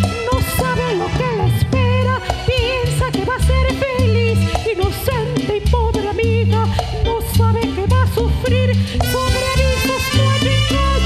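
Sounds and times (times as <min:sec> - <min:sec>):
band playing latin music: 0:00.0 - 0:11.0.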